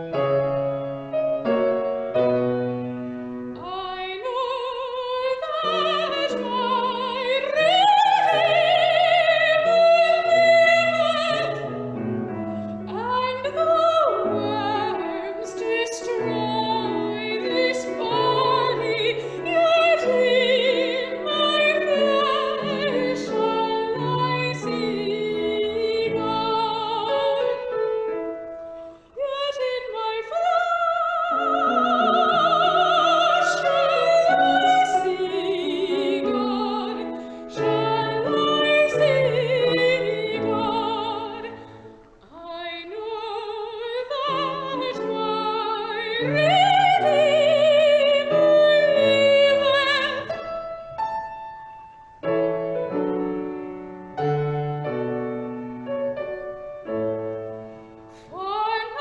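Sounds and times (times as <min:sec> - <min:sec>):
person singing classical song: 0:00.0 - 0:59.0
piano accompaniment: 0:00.0 - 0:59.0.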